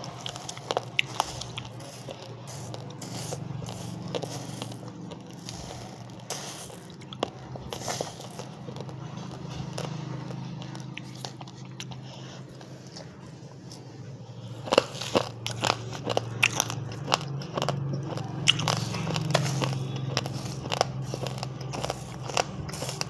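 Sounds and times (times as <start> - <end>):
low steady hum: 0.0 - 23.0
person chewing raw rice: 0.0 - 23.0.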